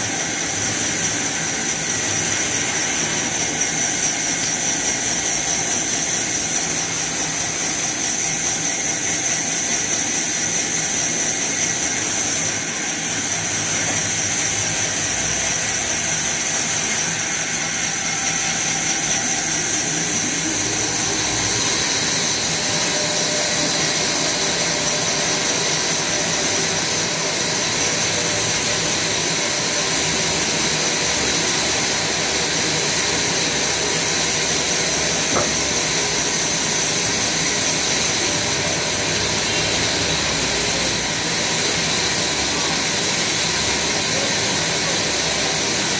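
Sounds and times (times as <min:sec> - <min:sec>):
band saw cutting log: 0:00.0 - 0:45.9.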